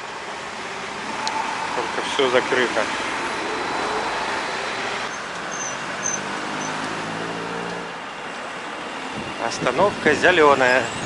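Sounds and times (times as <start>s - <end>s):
street traffic noise: 0.0s - 11.0s
vehicle engine hum passing: 0.1s - 9.4s.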